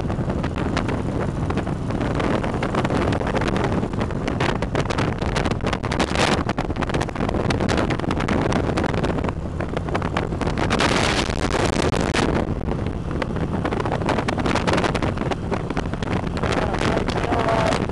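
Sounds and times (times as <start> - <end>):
motorcycle engine: 0.0 - 17.9
road noise: 0.0 - 17.9
wind buffeting microphone: 0.0 - 17.9.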